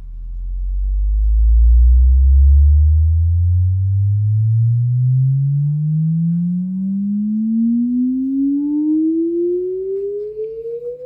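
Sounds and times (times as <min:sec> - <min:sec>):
rising sine-wave tone: 0:00.0 - 0:11.0.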